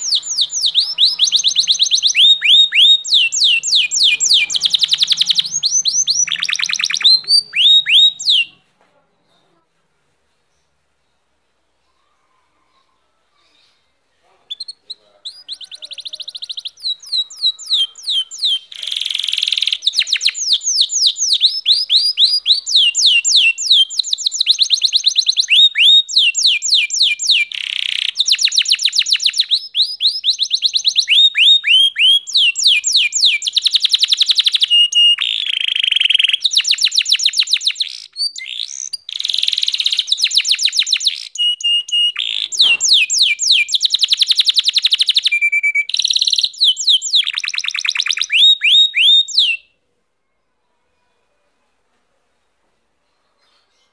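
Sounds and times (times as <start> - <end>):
canary trilling song: 0.0 - 8.7, 12.0 - 50.4.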